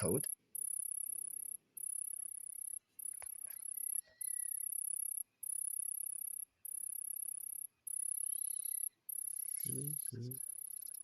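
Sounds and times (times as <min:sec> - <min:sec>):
high electronic chirping: 0:00.0 - 0:11.0.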